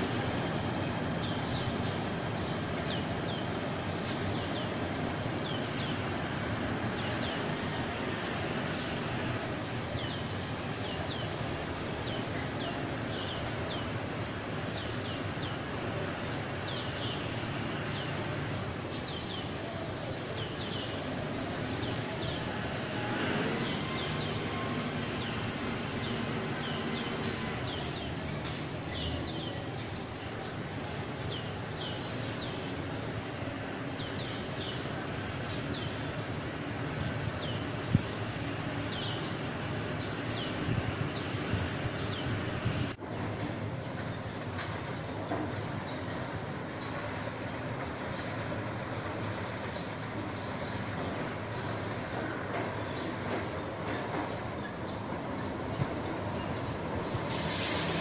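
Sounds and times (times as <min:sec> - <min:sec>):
birds chirping: 0:00.0 - 0:58.0
outdoor background hum: 0:00.0 - 0:58.0.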